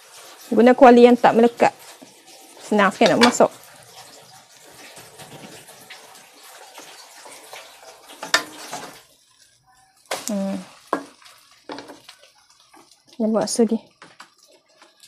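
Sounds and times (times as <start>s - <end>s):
bread sizzling in oil: 0.0s - 15.0s
wooden spatula scraping: 0.0s - 15.0s.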